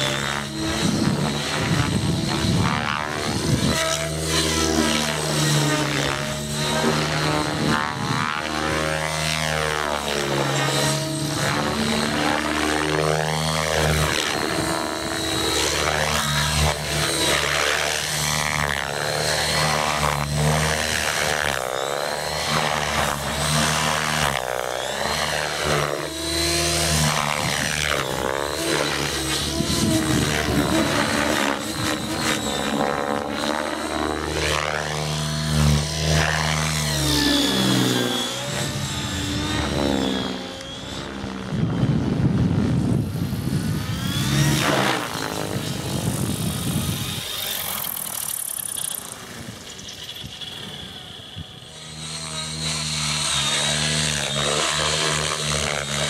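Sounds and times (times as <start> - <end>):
rc helicopter rotor and motor whine: 0.0 - 56.0.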